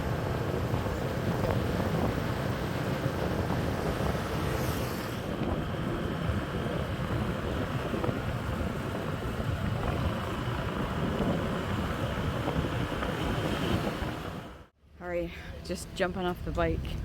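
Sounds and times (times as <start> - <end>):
wind rushing across microphone: 0.0 - 14.7
road noise: 0.0 - 17.0.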